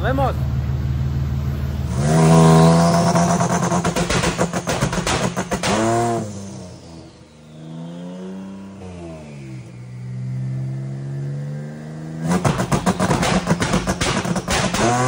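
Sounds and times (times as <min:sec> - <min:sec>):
car engine revving: 0:00.7 - 0:15.0.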